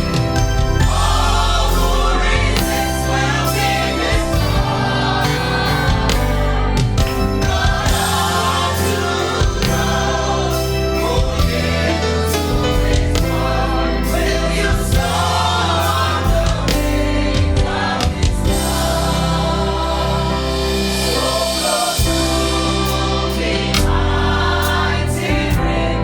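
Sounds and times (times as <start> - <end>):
group singing gospel song: 0.0 - 26.0
sustained low instrumental notes: 0.0 - 26.0.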